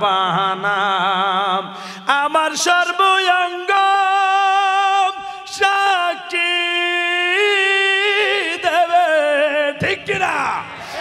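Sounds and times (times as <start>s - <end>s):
man singing long held notes: 0.0s - 11.0s.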